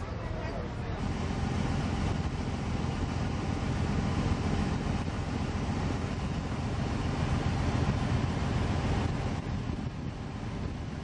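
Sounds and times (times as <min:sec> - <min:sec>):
boat engine rumble: 0:00.0 - 0:11.0
water noise: 0:00.0 - 0:11.0
wind buffeting microphone: 0:00.0 - 0:11.0.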